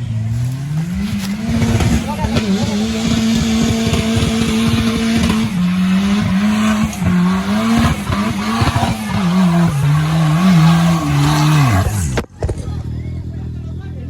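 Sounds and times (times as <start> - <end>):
engine labouring under load: 0.0 - 14.0.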